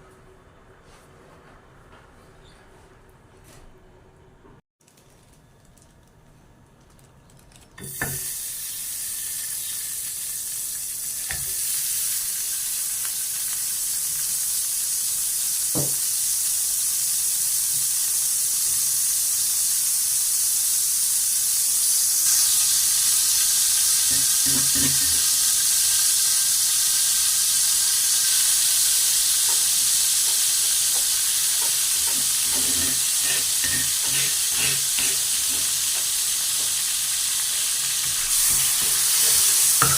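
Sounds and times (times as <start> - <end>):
food sizzling in hot oil: 7.8 - 39.9.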